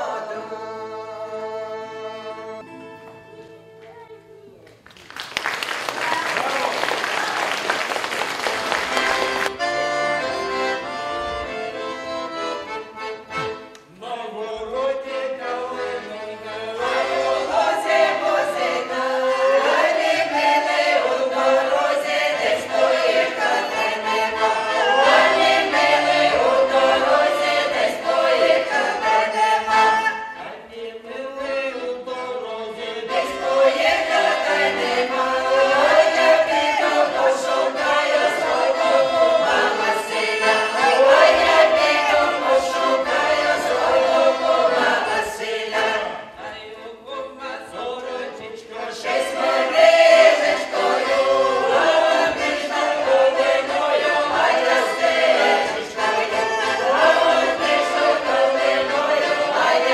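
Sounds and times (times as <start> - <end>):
folk ensemble singing in chorus: 0.0 - 3.8, 7.0 - 59.9.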